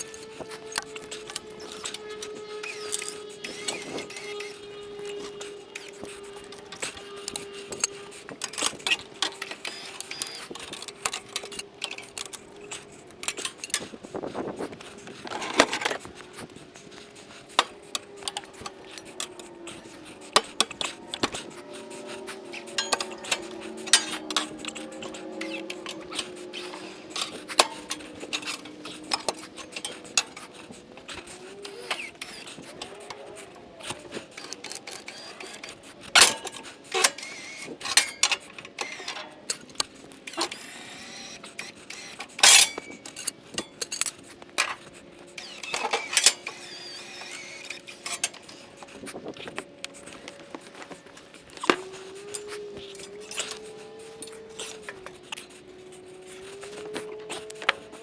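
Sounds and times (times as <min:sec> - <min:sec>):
metallic clinks and clanks: 0:00.0 - 0:58.0.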